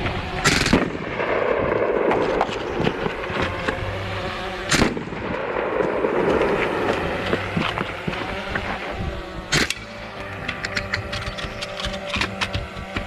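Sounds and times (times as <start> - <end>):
air rifle firing: 0.4 - 8.6, 9.4 - 12.7.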